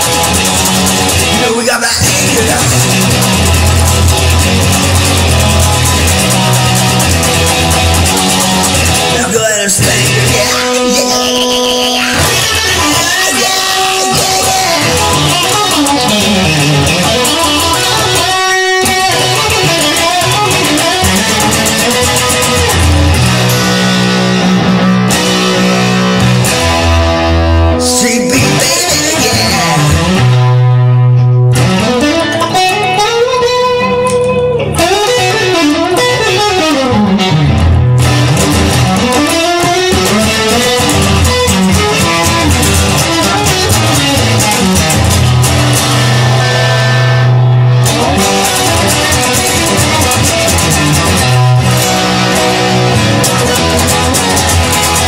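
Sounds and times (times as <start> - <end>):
bass guitar: 0.0 - 55.0
strummed electric guitar: 0.0 - 55.0.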